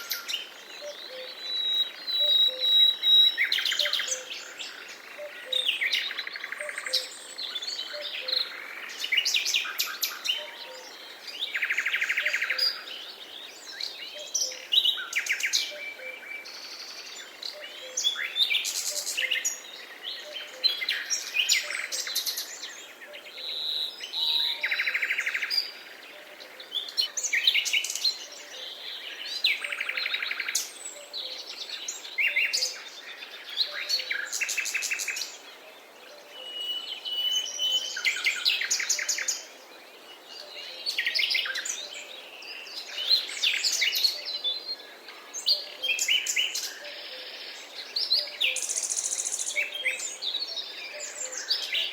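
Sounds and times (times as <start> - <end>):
birds singing and calling: 0.0 - 51.9
faint steady hiss: 0.0 - 51.9.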